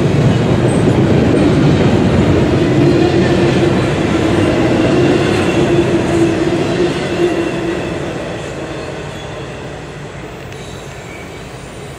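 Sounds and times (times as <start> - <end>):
train wheels on rails: 0.0 - 11.9.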